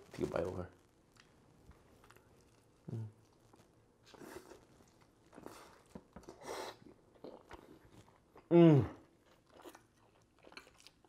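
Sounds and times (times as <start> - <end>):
person chewing food: 1.1 - 11.0.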